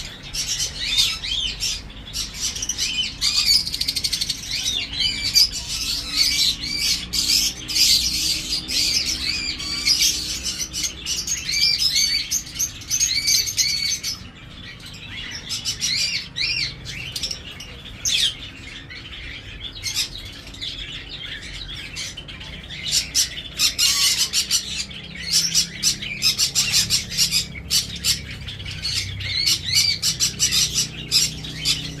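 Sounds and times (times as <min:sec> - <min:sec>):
small birds chirping and squawking: 0:00.0 - 0:32.0.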